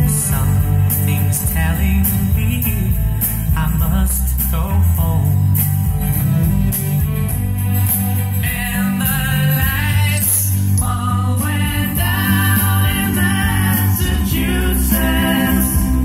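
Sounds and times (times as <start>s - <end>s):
person singing: 0.0s - 5.5s, 8.4s - 16.0s
guitar: 0.0s - 16.0s
heavy bass line: 0.0s - 16.0s
song over loudspeakers: 0.0s - 16.0s.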